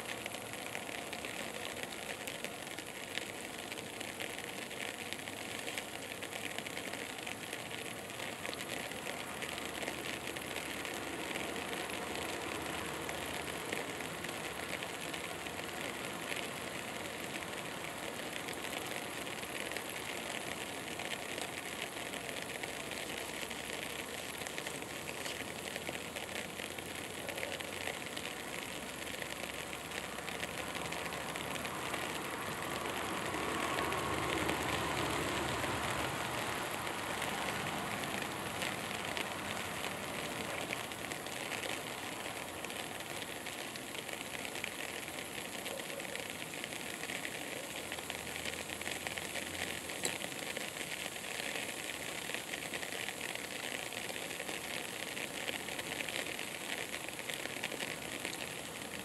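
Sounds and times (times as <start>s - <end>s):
fine crackle: 0.0s - 59.0s
outdoor background noise: 0.0s - 59.0s.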